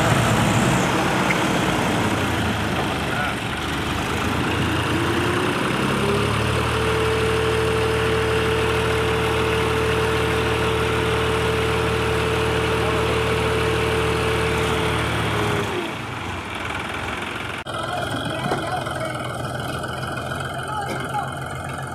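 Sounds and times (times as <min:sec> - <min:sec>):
diesel tractor engines under load: 0:00.0 - 0:21.9.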